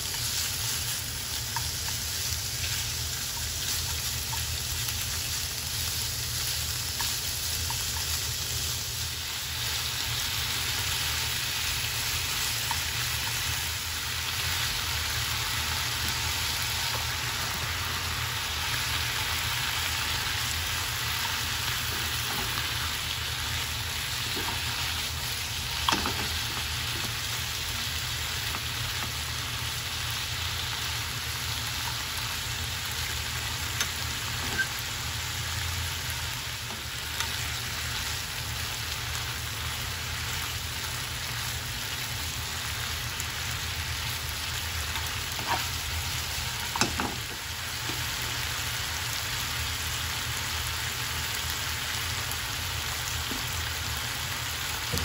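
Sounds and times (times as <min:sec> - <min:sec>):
meat and mushrooms sizzling: 0:00.0 - 0:55.0.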